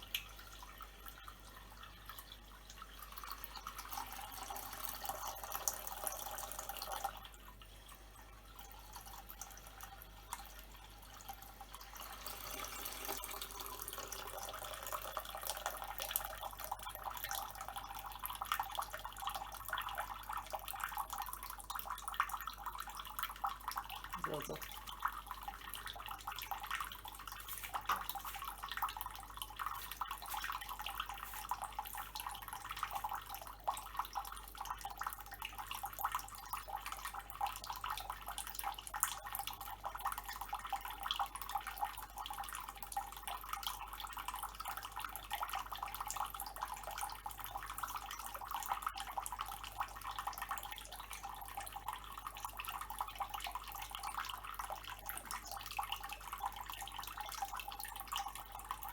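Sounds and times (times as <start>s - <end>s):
tap water running: 0.0s - 58.9s.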